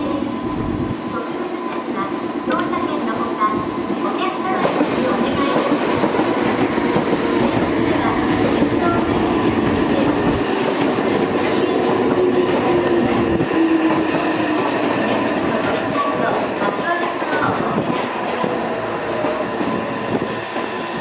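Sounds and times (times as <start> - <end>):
electric train motors humming: 0.0 - 21.0.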